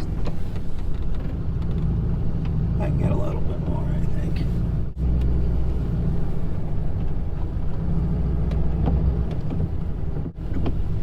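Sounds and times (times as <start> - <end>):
truck engine rumbling under load: 0.0 - 11.0.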